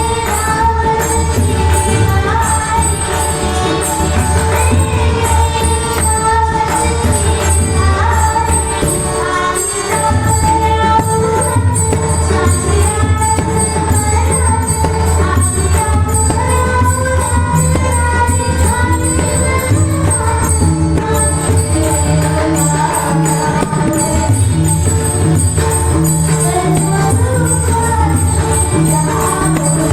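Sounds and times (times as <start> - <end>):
hand drums: 0.0 - 29.9
jingling metal percussion: 0.0 - 29.9
woman singing devotional melody: 0.0 - 29.9.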